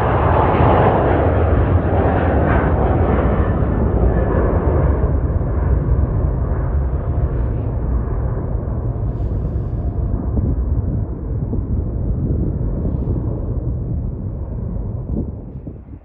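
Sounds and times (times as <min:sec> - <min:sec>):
jet airliner engines roaring: 0:00.0 - 0:16.0.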